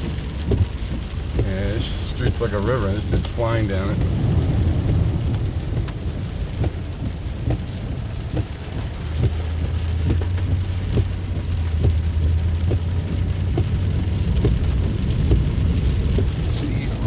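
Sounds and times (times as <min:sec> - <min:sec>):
car engine and road rumble: 0:00.0 - 0:17.0
rain and water noise: 0:00.0 - 0:17.0.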